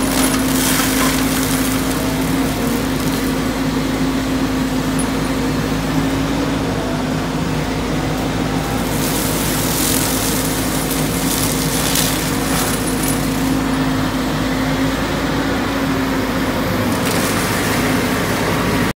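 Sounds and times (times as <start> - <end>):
excavator mulcher humming: 0.0 - 18.9
mulcher shredding brush: 0.0 - 18.9.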